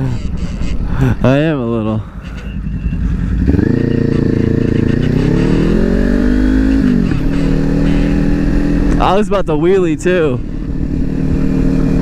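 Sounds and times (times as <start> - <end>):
motorcycle engine under hard throttle: 0.0 - 12.0.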